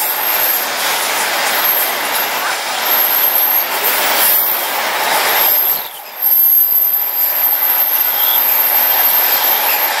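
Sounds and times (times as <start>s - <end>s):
freight wagons rolling over bridge: 0.0s - 10.0s.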